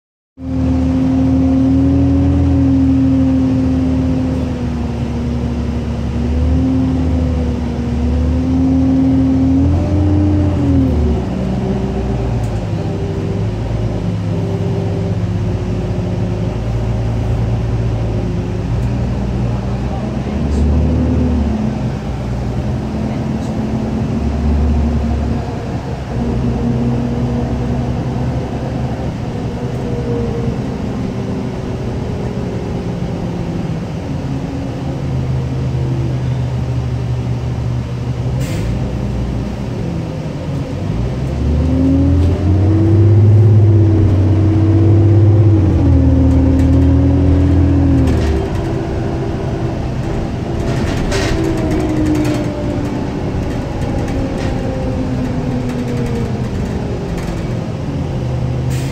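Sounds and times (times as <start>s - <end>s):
bus diesel engine: 0.4s - 58.9s.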